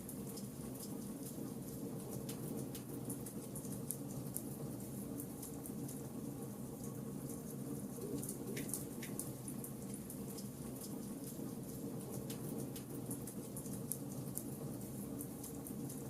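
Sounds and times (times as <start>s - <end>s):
charcoal fire crackling: 0.0s - 16.0s.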